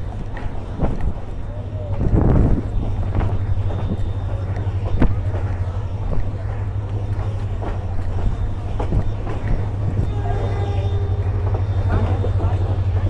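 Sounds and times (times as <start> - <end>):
train rumbling: 0.0 - 13.0
wind on microphone: 0.0 - 13.0.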